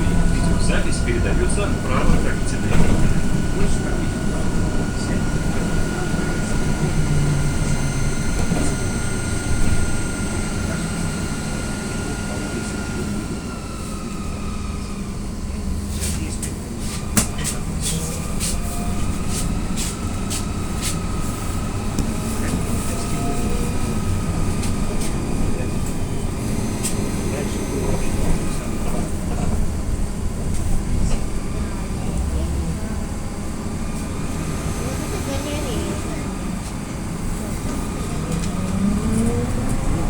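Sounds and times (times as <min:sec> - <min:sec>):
trolleybus running noise: 0:00.0 - 0:40.0.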